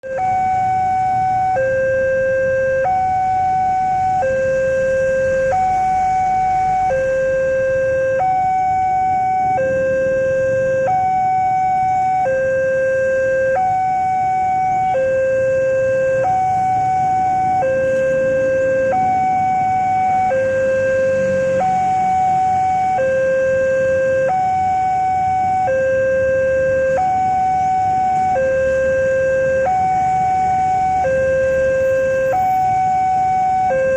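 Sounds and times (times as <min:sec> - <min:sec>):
two-tone level crossing alarm: 0:00.0 - 0:33.9.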